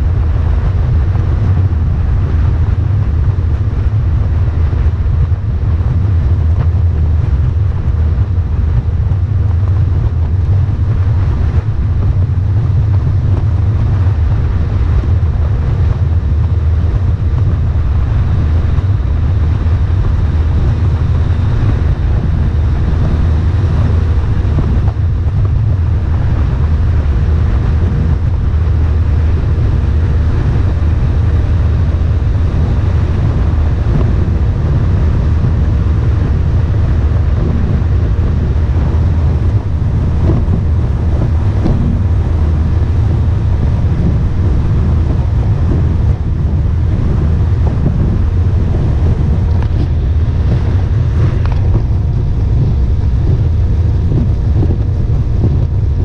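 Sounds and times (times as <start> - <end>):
boat engine drone: 0.0 - 56.0
wind on microphone: 0.0 - 56.0.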